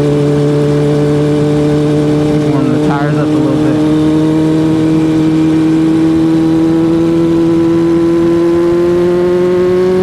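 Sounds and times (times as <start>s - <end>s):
motorcycle engine at high revs: 0.0s - 10.0s.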